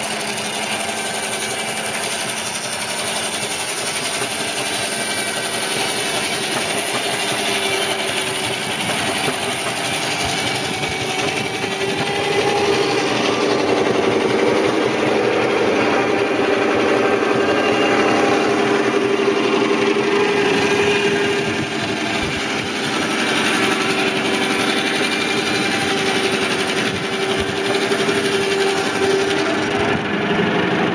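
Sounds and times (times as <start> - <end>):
steam engine driving circular saw: 0.0 - 30.9.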